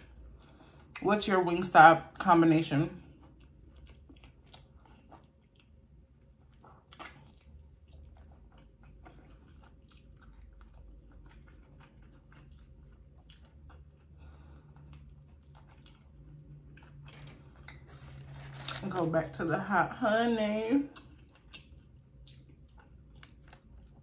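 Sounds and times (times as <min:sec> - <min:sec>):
person chewing and crunching: 0:03.0 - 0:19.4, 0:20.9 - 0:24.0.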